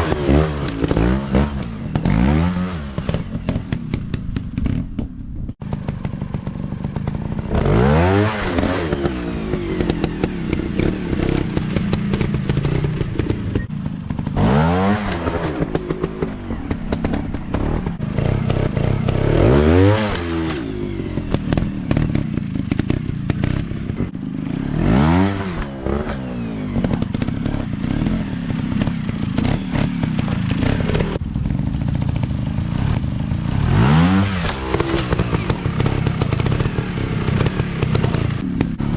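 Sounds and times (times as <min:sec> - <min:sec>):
dirt bike engines revving: 0:00.0 - 0:04.6, 0:05.6 - 0:38.9.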